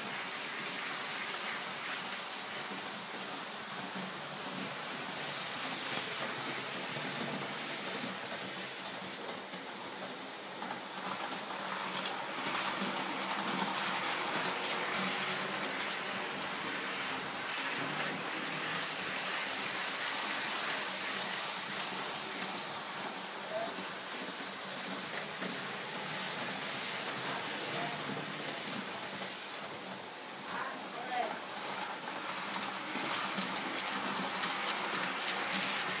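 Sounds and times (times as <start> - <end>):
model train running on track: 0.0 - 36.0.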